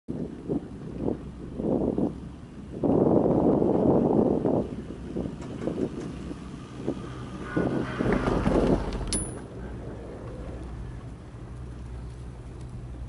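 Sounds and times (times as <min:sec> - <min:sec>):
wind buffeting microphone: 0:00.1 - 0:13.0.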